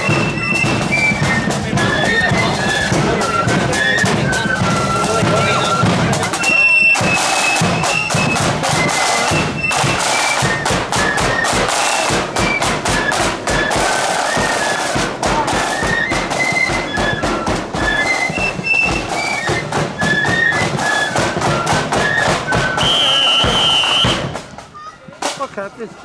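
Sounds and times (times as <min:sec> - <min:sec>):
flutes playing melody: 0:00.0 - 0:24.6
side drums beat: 0:00.0 - 0:25.9.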